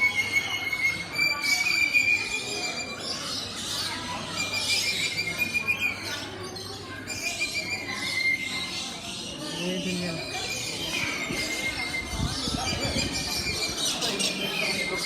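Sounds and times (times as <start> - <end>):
birds chirping and squeaking: 0.0 - 15.0.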